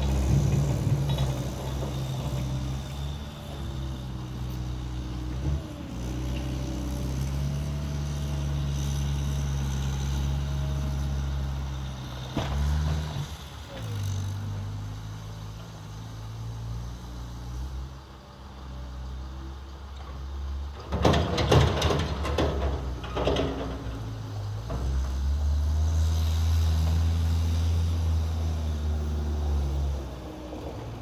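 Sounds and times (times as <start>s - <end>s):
skid steer engine under load: 0.0s - 31.0s.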